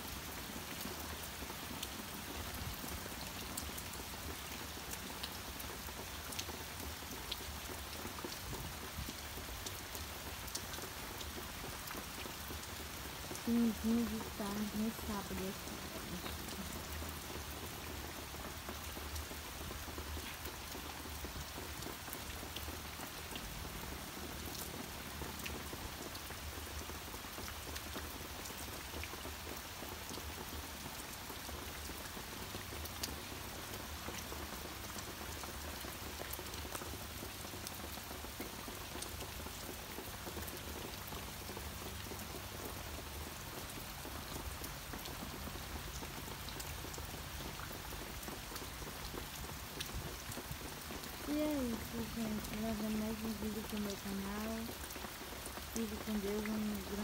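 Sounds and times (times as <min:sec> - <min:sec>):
heavy rain: 0:00.0 - 0:57.0
raindrops ticking close by: 0:00.0 - 0:57.0.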